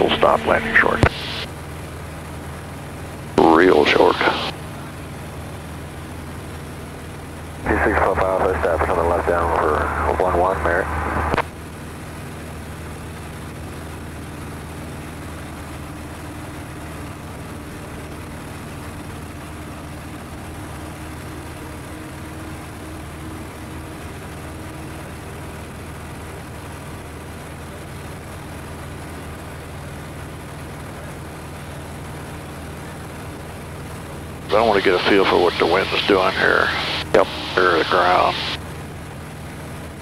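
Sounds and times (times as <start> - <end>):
light plane engine drone: 0.0 - 40.0.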